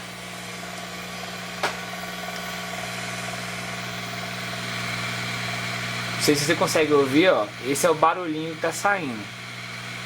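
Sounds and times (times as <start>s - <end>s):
hot-air station hum: 0.0s - 10.0s.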